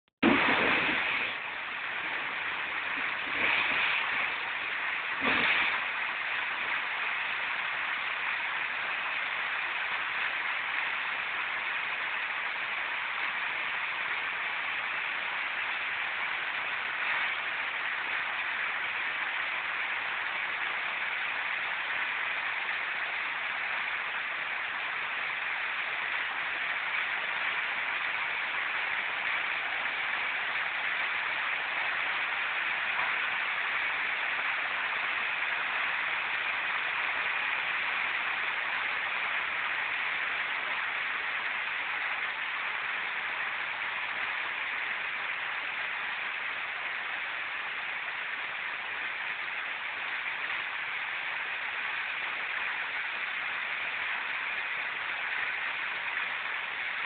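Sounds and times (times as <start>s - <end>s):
heavy rain on concrete and leaves: 0.2s - 57.0s.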